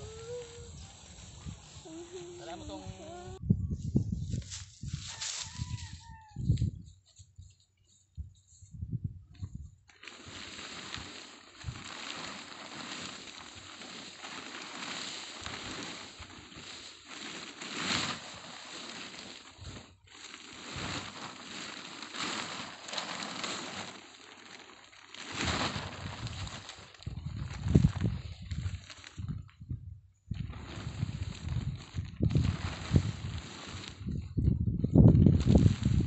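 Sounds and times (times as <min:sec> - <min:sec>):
plastic tarpaulins rustling: 0:00.0 - 0:03.4, 0:04.1 - 0:08.7, 0:09.4 - 0:36.0.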